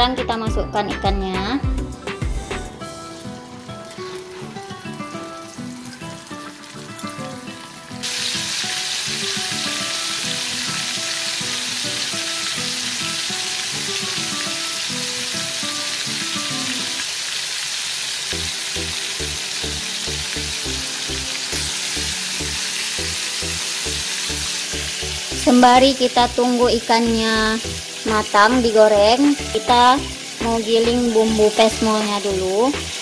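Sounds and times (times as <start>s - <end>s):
background music: 0.0s - 17.1s, 18.3s - 33.0s
fish deep-frying in oil: 2.5s - 33.0s.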